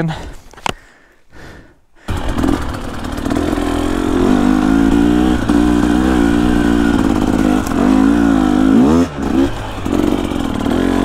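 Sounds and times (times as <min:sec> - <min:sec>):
dirt bike engine revving: 0:02.1 - 0:11.0.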